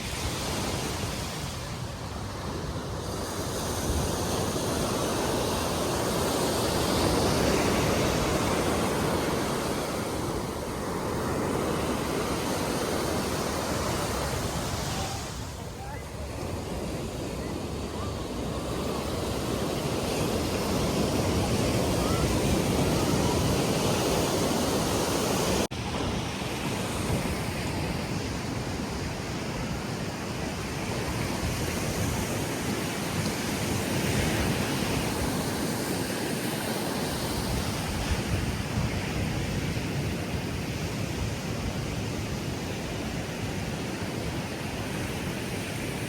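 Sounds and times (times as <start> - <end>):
sea waves washing onto beach: 0.0 - 46.0.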